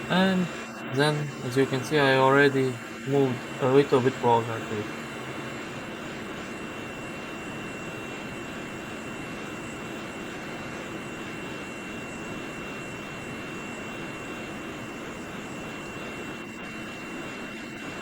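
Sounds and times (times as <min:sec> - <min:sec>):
hot air blower rushing: 0:00.0 - 0:18.0.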